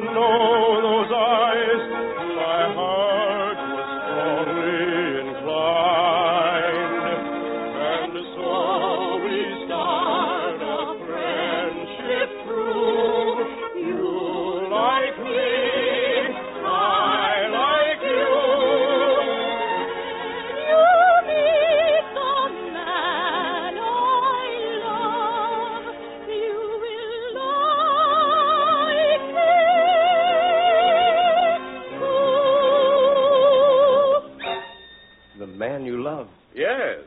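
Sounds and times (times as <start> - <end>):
operatic singing: 0.0 - 34.4.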